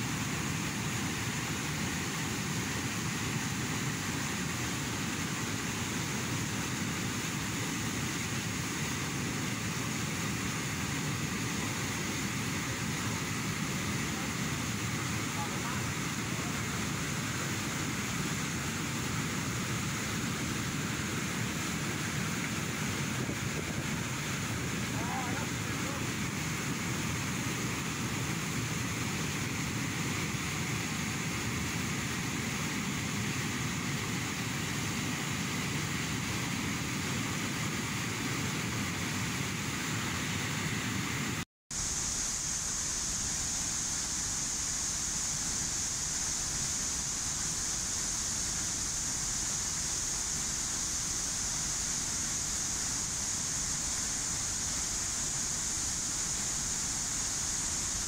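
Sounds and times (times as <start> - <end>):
river rushing over boulders: 0.0 - 58.0
waterfall pouring heavily: 0.0 - 58.0.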